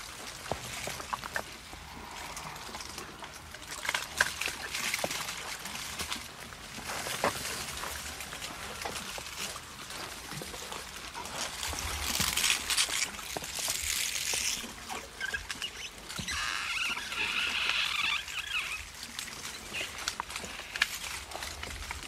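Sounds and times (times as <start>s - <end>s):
leaves and branches rustling: 0.0s - 22.0s
rain pattering: 0.0s - 22.0s.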